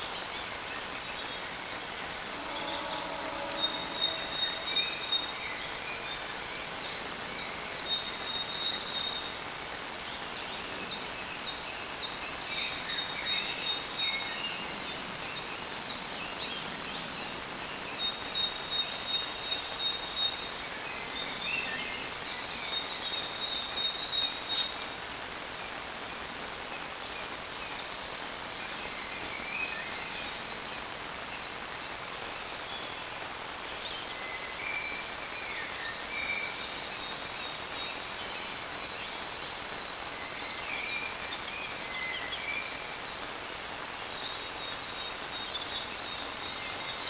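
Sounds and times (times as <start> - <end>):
steady background hiss: 0.0 - 47.0.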